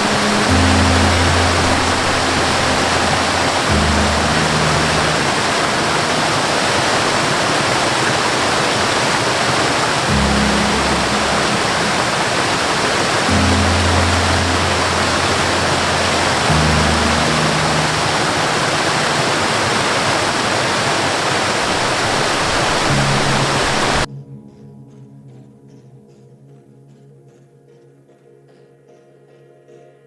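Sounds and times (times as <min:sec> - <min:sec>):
background music low notes: 0:00.0 - 0:20.6, 0:21.6 - 0:30.0
waterfall roaring: 0:00.0 - 0:24.1.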